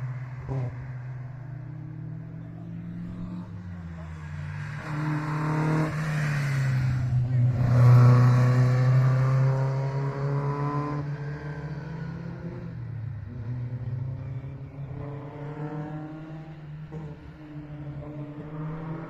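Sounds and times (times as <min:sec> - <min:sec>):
rally car accelerating: 0:00.0 - 0:19.0.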